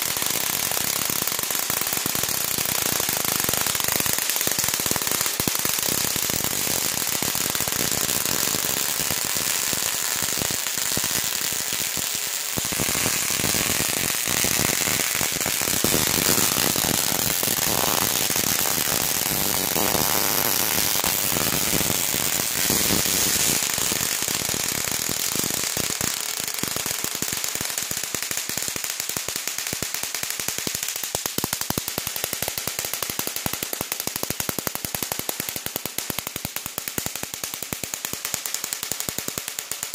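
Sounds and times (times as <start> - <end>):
tesla coil sparks crackling: 0.0 - 39.9.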